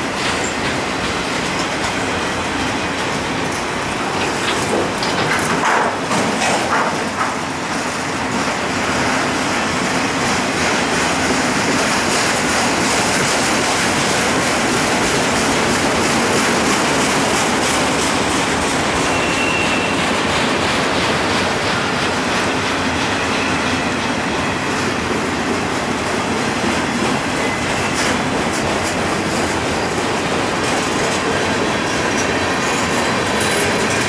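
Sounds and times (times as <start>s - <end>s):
freight train rumble and rattle: 0.0s - 34.0s
wheels clacking over rail joints: 0.0s - 34.0s.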